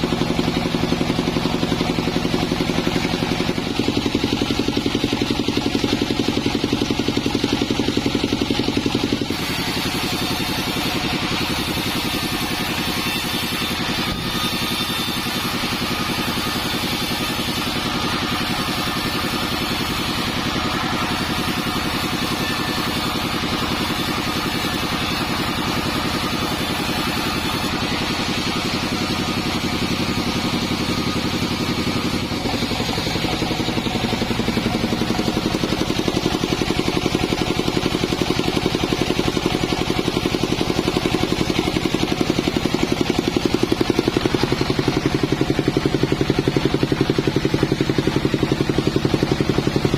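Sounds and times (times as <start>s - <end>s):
band sawmill sawing wood: 0.0s - 49.9s.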